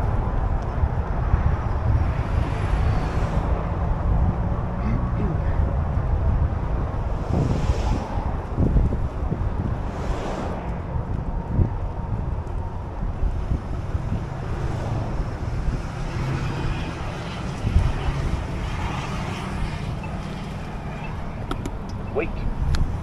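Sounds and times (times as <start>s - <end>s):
car traffic: 0.0s - 23.0s
wind noise on microphone: 0.0s - 23.0s.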